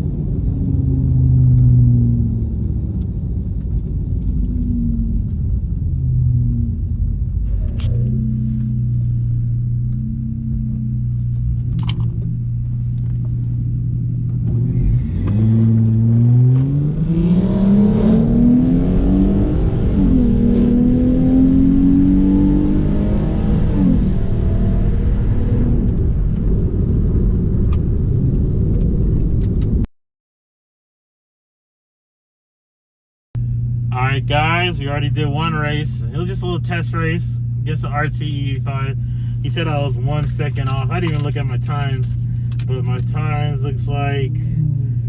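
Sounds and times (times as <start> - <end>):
car engine accelerating: 0.0 - 29.8, 33.4 - 45.0.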